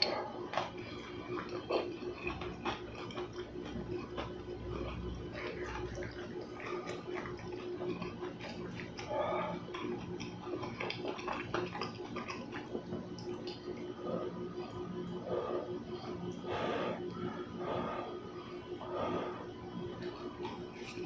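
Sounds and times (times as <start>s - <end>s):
wet sticky chewing: 0.0s - 21.0s.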